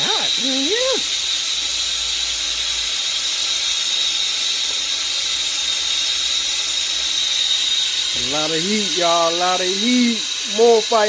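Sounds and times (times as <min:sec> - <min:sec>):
torch flame hissing and whistling: 0:00.0 - 0:11.0.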